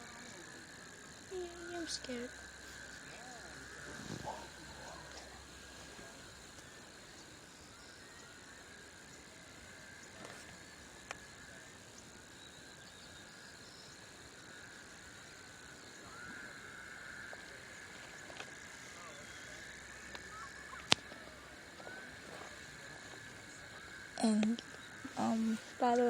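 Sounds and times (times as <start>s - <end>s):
high-pitched night chorus: 0.0s - 26.0s.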